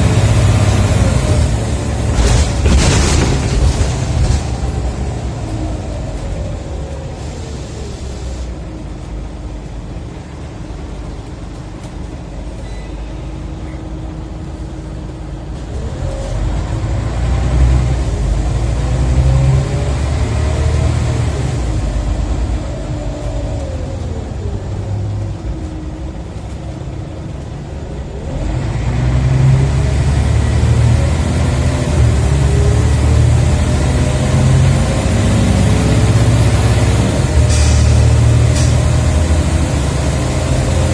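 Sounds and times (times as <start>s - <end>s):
bus engine accelerating: 0.0s - 40.9s.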